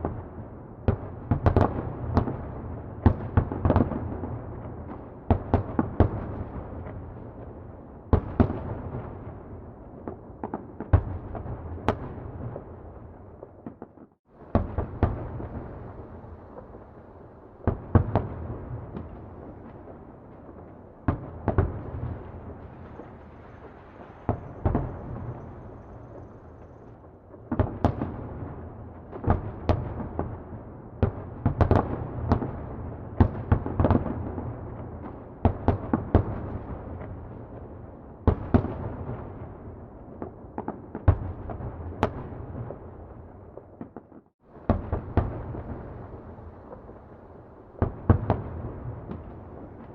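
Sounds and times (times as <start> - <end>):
distant fireworks exploding: 0.0 - 49.9.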